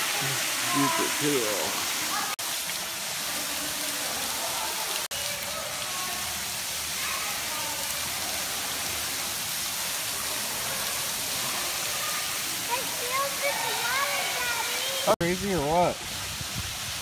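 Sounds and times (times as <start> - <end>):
waterfall pouring and splashing: 0.0 - 17.0.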